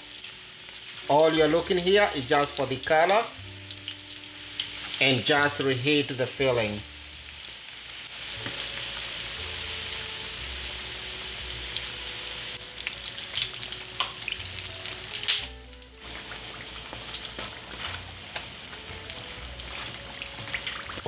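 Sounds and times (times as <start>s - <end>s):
food deep-frying in oil: 0.0s - 21.0s.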